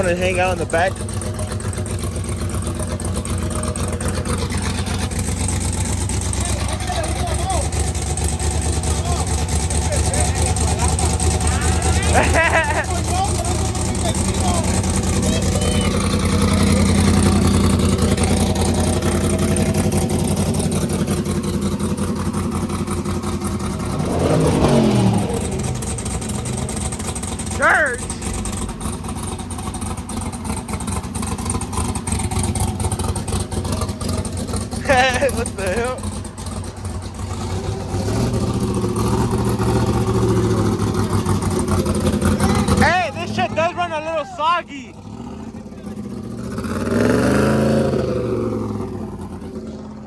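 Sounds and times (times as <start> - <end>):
car engine humming: 0.0 - 50.0.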